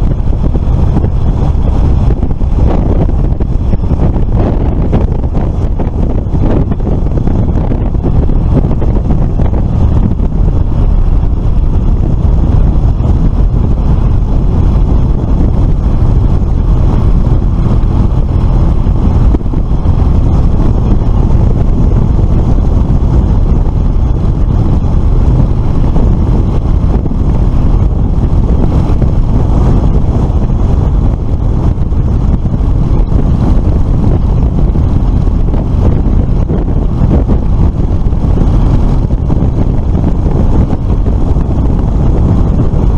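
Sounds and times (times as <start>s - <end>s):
road noise: 0.0s - 42.9s
wind rumble on microphone: 0.0s - 42.9s.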